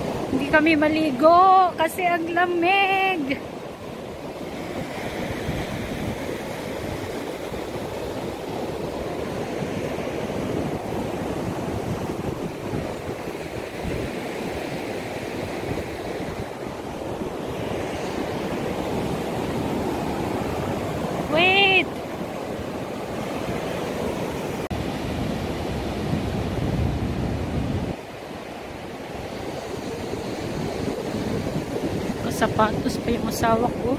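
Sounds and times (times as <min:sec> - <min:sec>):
surf breaking on beach: 0:00.0 - 0:33.9
wind buffeting microphone: 0:00.0 - 0:33.9.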